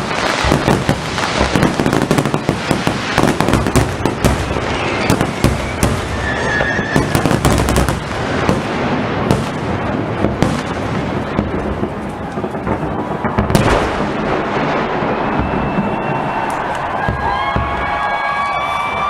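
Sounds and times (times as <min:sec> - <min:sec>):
firework whistle: 0:00.0 - 0:08.6, 0:12.0 - 0:19.0
fireworks bangs and crackles: 0:00.0 - 0:19.0.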